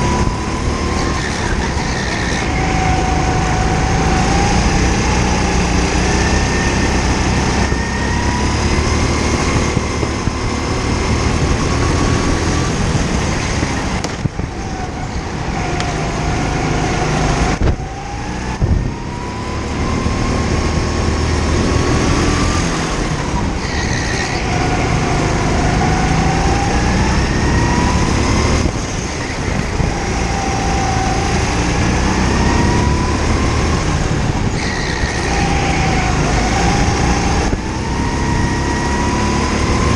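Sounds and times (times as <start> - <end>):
go-kart engine accelerating: 0.0 - 39.9.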